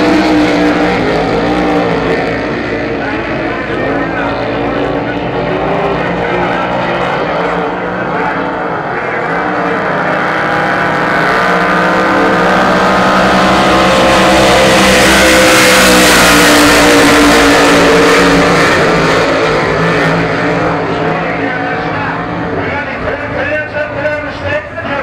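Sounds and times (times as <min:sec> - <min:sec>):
racing boat engines: 0:00.0 - 0:25.0.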